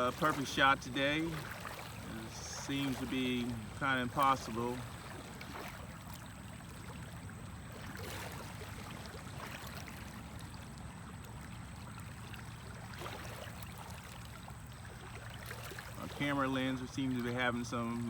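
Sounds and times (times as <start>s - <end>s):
water washing against shore: 0.0s - 18.0s.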